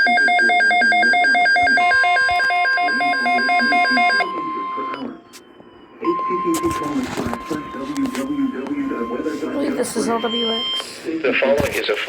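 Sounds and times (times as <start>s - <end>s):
steady warning alarm tone: 0.0s - 11.2s.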